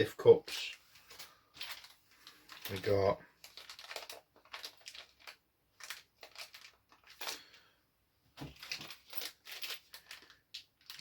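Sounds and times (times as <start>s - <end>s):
plastic bags crinkling: 0.5s - 7.7s, 8.4s - 11.0s.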